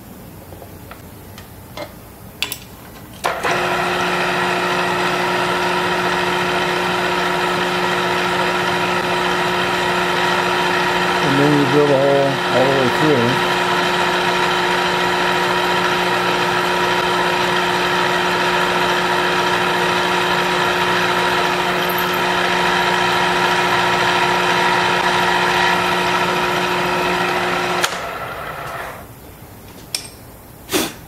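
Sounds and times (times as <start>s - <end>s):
drill press motor running: 3.3s - 29.1s.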